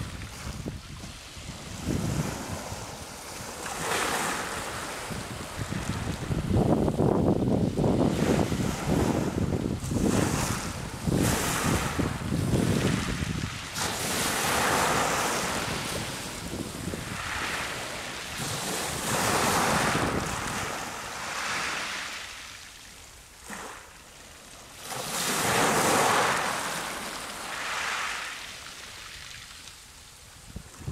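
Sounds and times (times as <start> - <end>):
waves washing over pebbles: 0.0 - 6.9, 8.0 - 23.9, 24.6 - 30.1.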